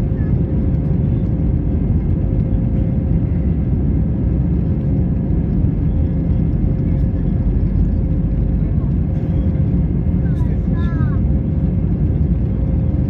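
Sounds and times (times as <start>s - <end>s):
low rumble of jet engines and wheels: 0.0s - 13.0s.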